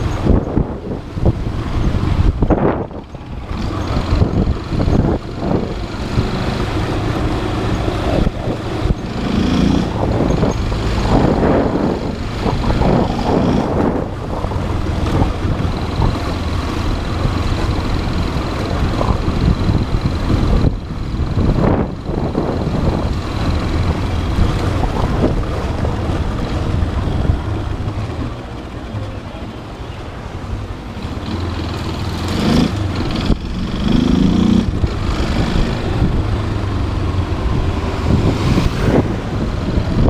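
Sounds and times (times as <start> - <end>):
motorcycle engine running: 0.0 - 29.1, 30.5 - 40.0
wind buffeting microphone: 0.0 - 40.0.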